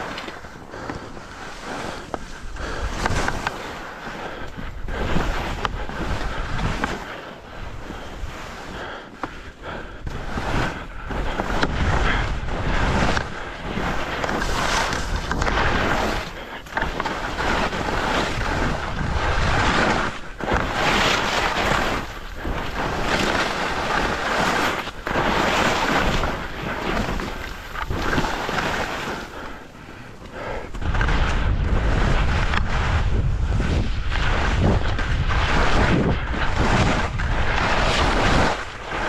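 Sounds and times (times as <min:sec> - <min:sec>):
wind on microphone: 0:00.0 - 0:09.0, 0:09.6 - 0:39.0
skis scraping over snow: 0:00.0 - 0:39.0.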